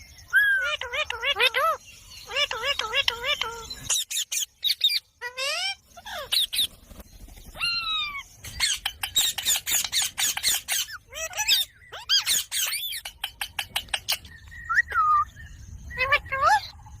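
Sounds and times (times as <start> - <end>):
parakeet calling and chattering: 0.0 - 17.0.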